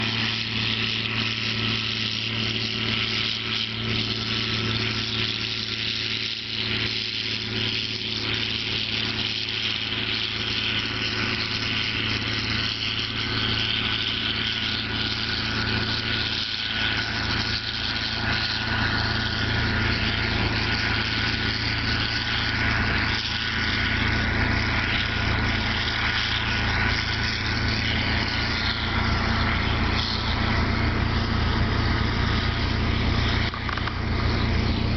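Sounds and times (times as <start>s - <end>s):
thin steady whine: 0.0s - 34.9s
tractor diesel engine under load: 0.0s - 34.9s.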